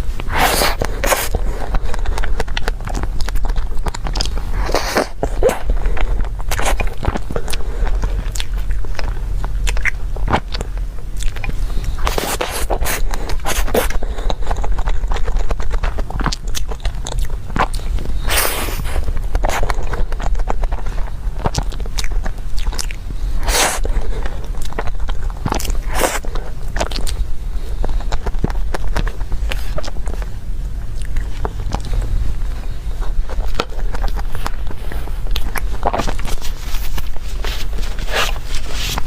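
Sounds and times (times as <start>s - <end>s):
chewing and mouth clicks: 0.0s - 39.0s.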